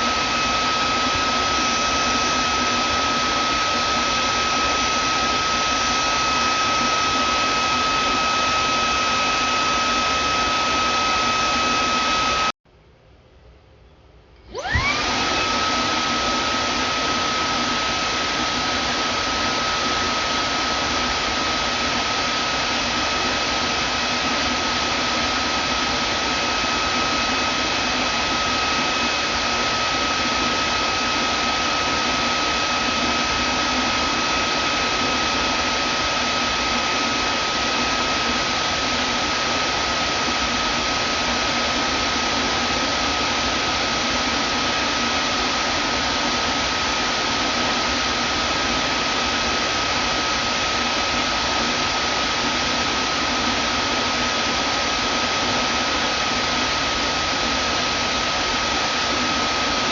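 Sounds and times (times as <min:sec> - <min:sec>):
vacuum cleaner running: 0:00.0 - 0:12.6, 0:14.4 - 0:59.9.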